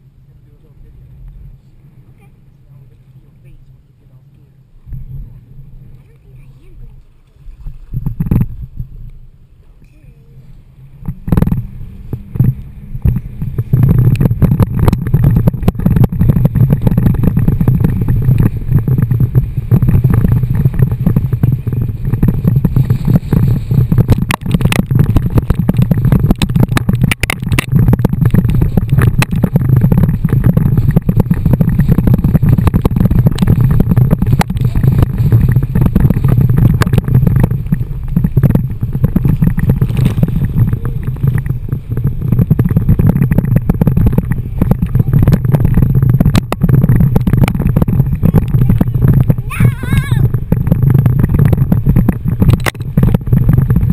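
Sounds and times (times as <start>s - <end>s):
muffled wind rush: 0.0s - 53.9s
knocks and splashes: 7.0s - 9.0s, 11.0s - 53.9s.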